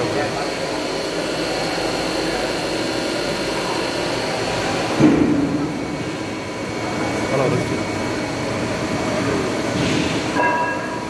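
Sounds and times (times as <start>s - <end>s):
milling machine humming and whining: 0.0s - 11.0s.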